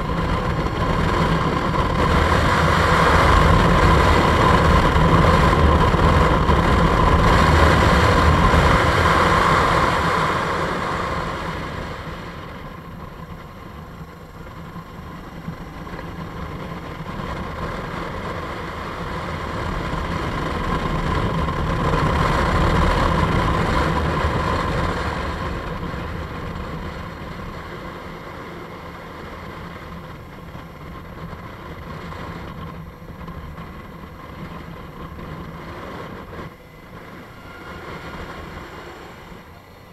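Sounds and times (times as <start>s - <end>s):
motorcycle engine: 0.0s - 39.9s
wind and road rush: 0.0s - 39.9s.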